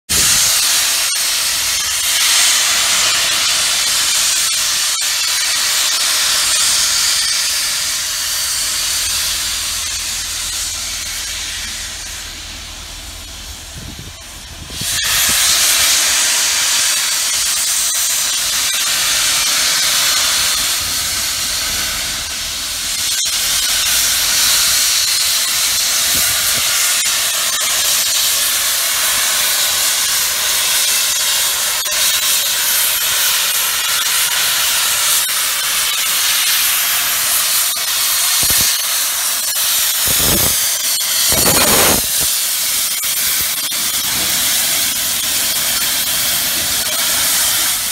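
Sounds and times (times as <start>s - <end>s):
steam locomotive hissing steam: 0.1s - 47.9s.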